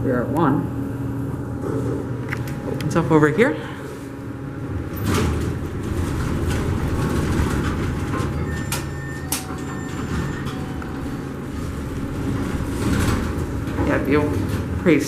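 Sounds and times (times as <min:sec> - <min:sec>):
door mechanism low rumble: 0:01.1 - 0:15.0
elevator doors sliding open: 0:01.5 - 0:15.0.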